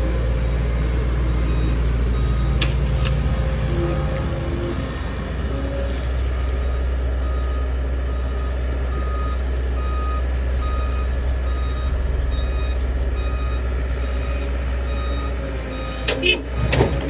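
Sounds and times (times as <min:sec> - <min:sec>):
backup alarm beeping: 0:00.0 - 0:05.0, 0:06.6 - 0:16.7
diesel engine rumble: 0:00.0 - 0:17.0.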